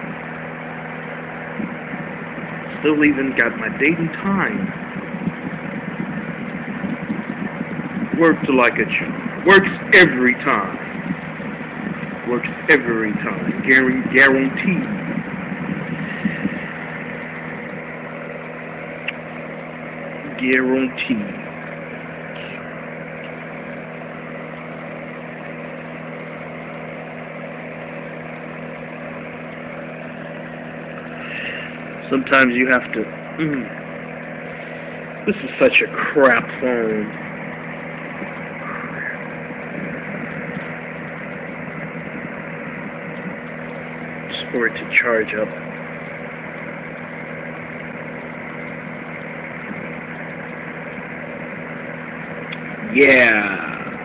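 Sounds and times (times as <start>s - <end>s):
fan heater blowing air: 0.0s - 54.0s.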